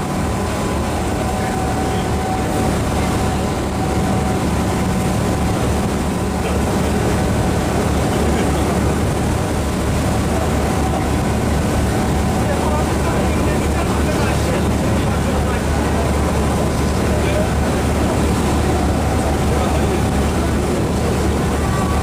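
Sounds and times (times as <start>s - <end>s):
boat engine droning: 0.0s - 22.0s
wind and water rushing: 0.0s - 22.0s.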